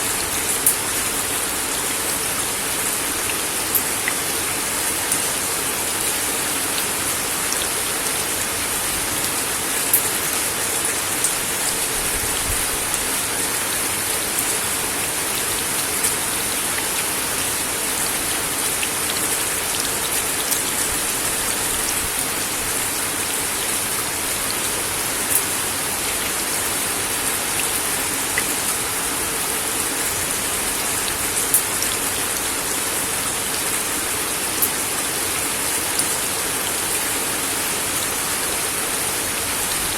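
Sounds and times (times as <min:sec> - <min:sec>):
rain on a wooden deck: 0:00.0 - 0:39.9.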